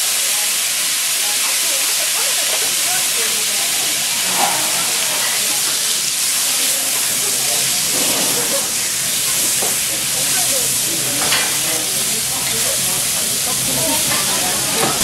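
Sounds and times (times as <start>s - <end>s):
steaks sizzling on griddle: 0.0s - 15.0s.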